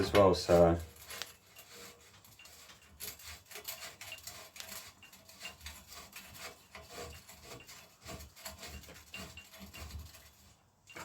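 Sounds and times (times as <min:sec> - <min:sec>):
brush scraping bike threads: 0:00.0 - 0:11.0.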